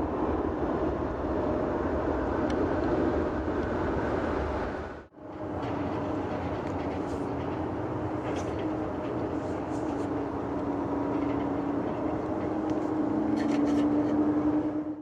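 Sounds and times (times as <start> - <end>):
jet engines humming: 0.0 - 15.0.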